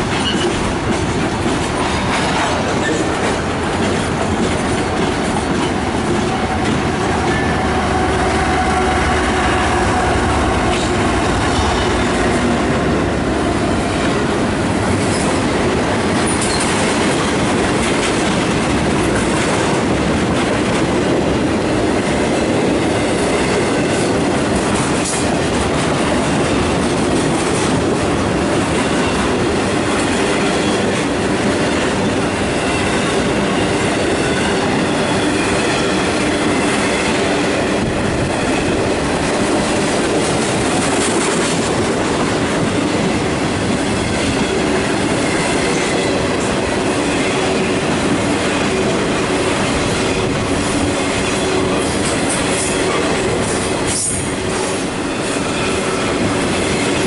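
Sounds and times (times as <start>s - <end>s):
train wheels rumbling on rail: 0.0s - 57.0s
wheels clacking over rail joints: 0.0s - 57.0s.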